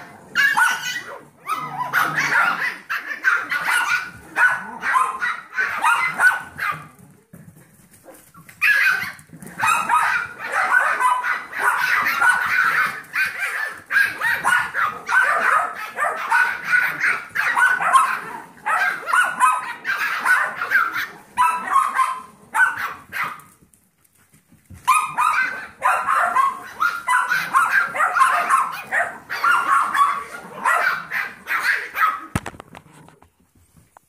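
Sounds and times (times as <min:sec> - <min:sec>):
puppies barking and yipping: 0:00.0 - 0:07.0, 0:08.1 - 0:23.6, 0:24.7 - 0:32.6.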